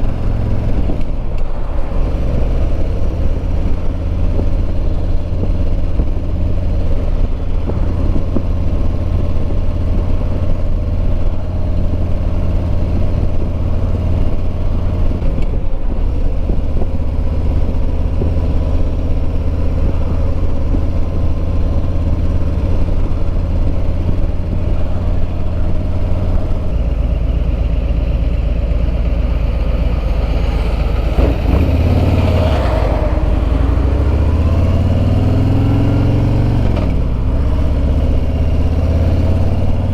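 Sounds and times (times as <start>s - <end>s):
wind rushing past microphone: 0.0s - 27.0s, 29.0s - 39.9s
motorcycle engine cruising: 0.0s - 39.9s.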